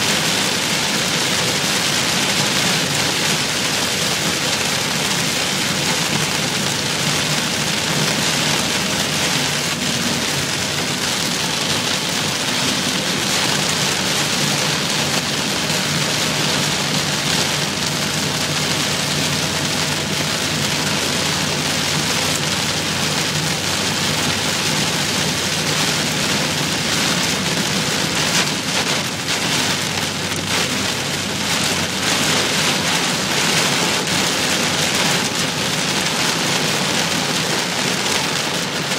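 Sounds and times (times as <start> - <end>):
heavy rain on a car: 0.0 - 38.9
road and tyre noise: 0.0 - 38.9.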